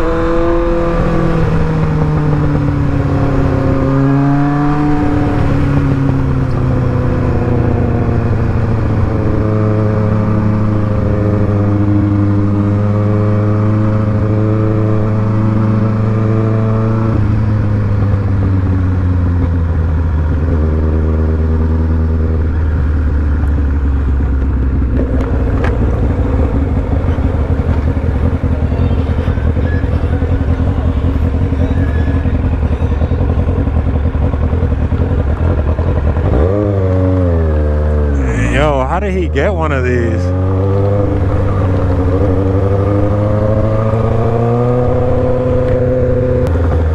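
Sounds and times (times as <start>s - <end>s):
motorcycle engine running: 0.0s - 38.4s, 39.6s - 46.9s.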